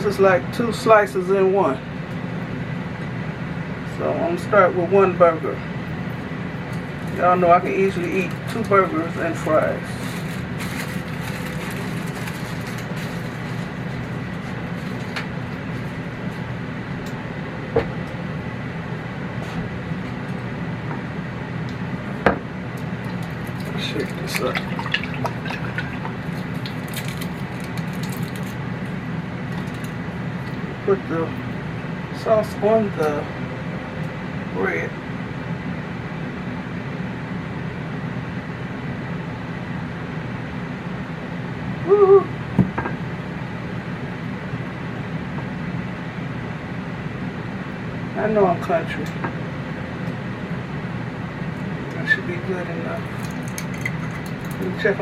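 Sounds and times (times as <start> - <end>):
kitchen fan humming: 0.0 - 55.0.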